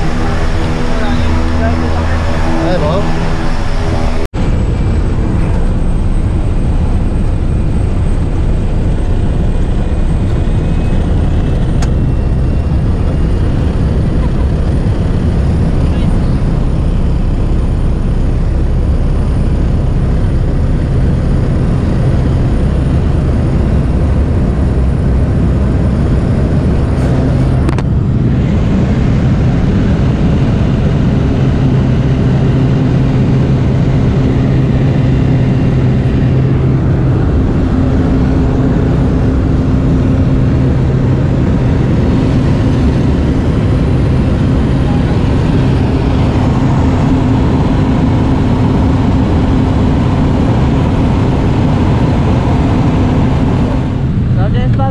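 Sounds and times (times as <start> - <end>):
propeller plane engine drone: 0.0 - 54.9.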